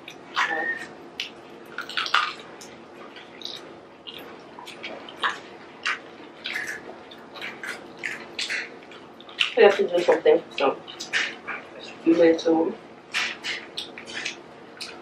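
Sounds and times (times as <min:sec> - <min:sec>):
faint steady hum: 0:00.0 - 0:15.0
open-mouth chewing: 0:00.0 - 0:15.0.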